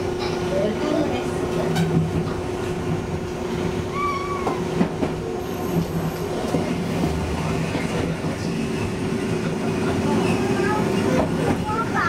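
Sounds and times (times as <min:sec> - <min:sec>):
train low rumble: 0:00.0 - 0:12.0
train motor hum: 0:00.0 - 0:12.0.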